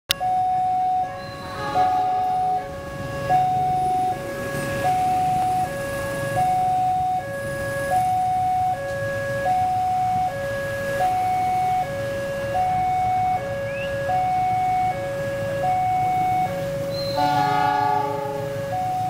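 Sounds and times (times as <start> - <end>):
level crossing two-tone alarm: 0.1 - 19.0.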